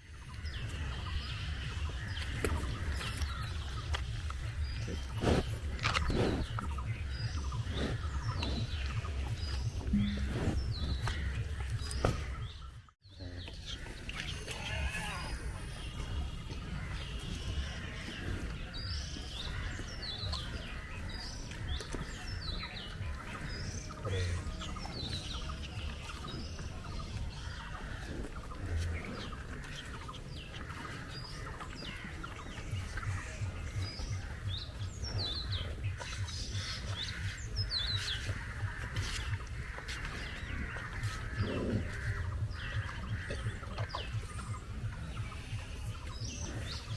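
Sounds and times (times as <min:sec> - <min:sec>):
steady low rumble: 0:00.0 - 0:14.4, 0:15.2 - 0:46.9
small birds chirping: 0:00.0 - 0:46.9.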